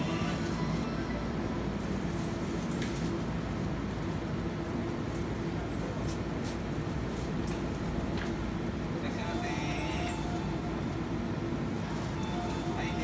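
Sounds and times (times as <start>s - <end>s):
equipment hum and rumble: 0.0s - 13.0s.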